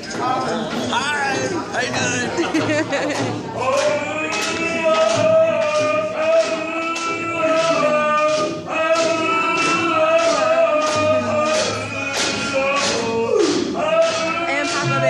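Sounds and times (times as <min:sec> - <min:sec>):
group of voices singing: 0:00.0 - 0:15.0
hand drum beat: 0:00.0 - 0:15.0.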